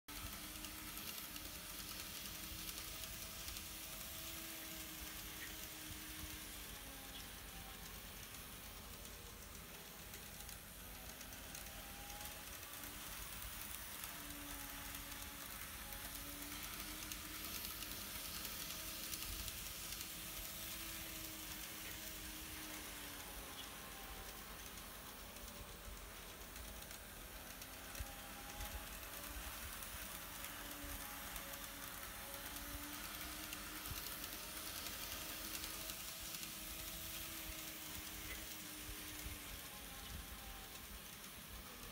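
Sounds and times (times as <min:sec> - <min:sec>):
light hiss: 0:00.1 - 0:41.9
model train motor whine: 0:00.1 - 0:41.9.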